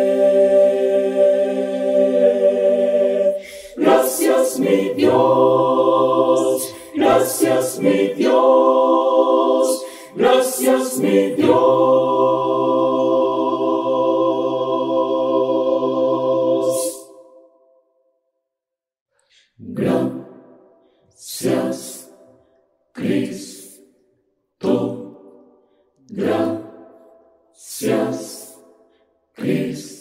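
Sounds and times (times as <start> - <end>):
mixed choir singing a cappella: 0.0 - 17.6, 19.4 - 24.0, 24.6 - 30.0.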